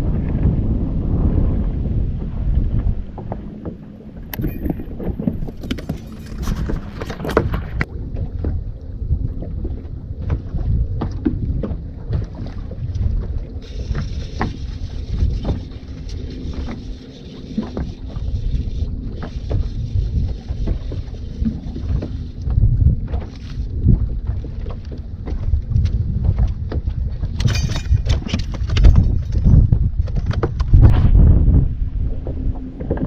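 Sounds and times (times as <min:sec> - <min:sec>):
water slapping boat hull: 0:00.0 - 0:33.0
wind buffeting microphone: 0:00.0 - 0:33.0.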